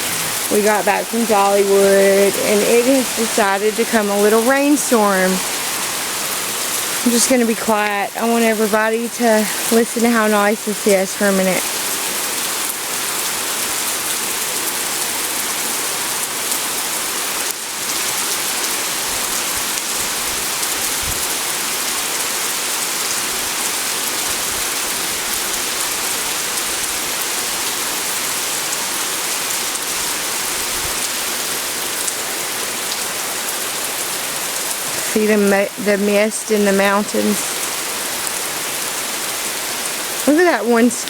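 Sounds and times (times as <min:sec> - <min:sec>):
heavy rain hiss: 0:00.0 - 0:41.0.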